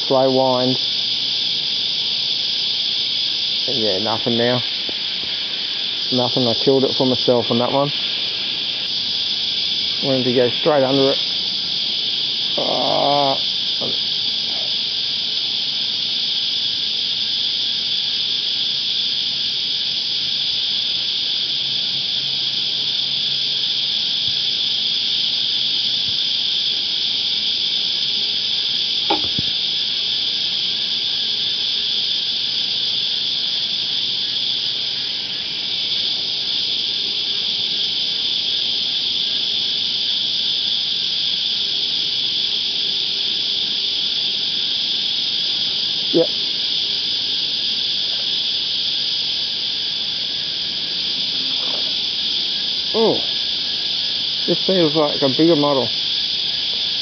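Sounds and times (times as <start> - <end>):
cicadas chorus: 0.0 - 57.0.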